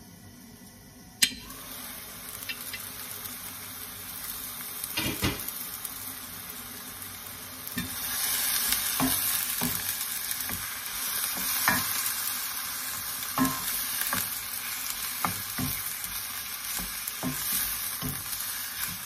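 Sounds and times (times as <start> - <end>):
meat sizzling: 0.3 - 19.0.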